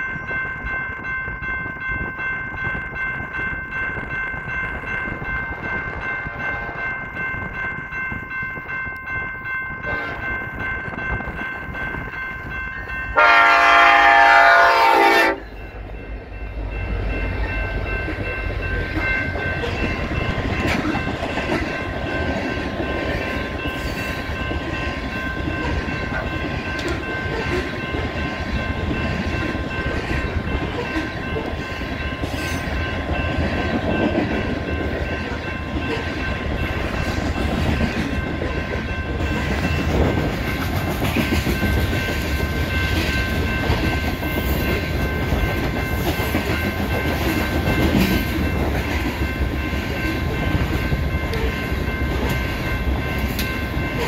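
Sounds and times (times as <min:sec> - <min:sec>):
crossing bell ringing: 0:00.0 - 0:54.0
train wheels rumbling with clickety-clack: 0:00.0 - 0:54.0.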